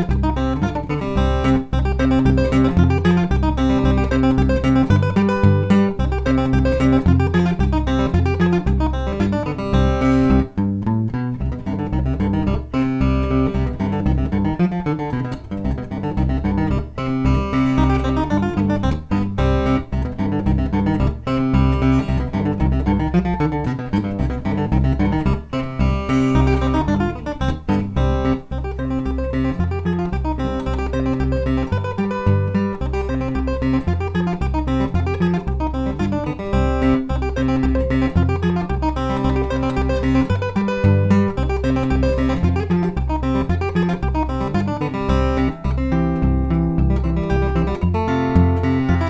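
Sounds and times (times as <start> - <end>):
fingerstyle acoustic guitar: 0.0 - 49.0.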